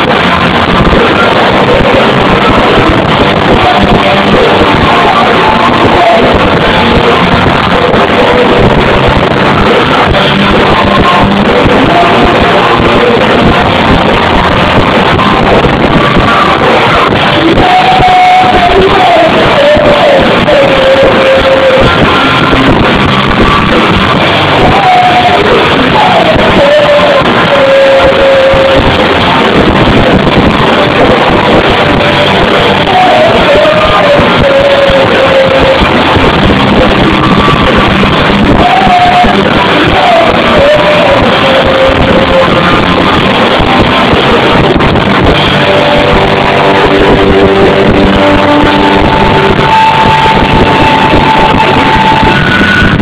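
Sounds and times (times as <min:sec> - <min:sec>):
person singing: 0:00.0 - 0:53.0.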